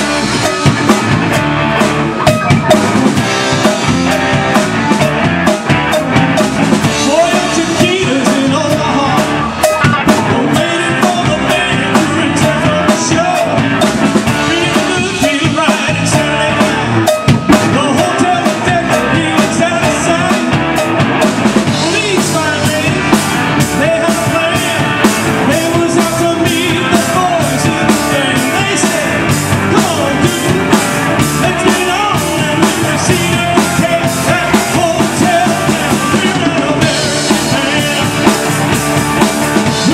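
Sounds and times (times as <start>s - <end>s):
drum-kit beat: 0.0s - 39.9s
rock band playing live: 0.0s - 39.9s.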